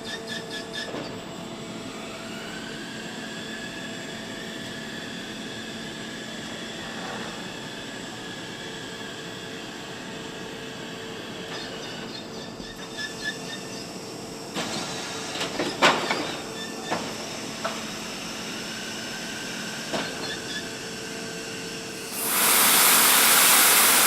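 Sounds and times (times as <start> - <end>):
factory machinery hum: 0.1 - 24.0.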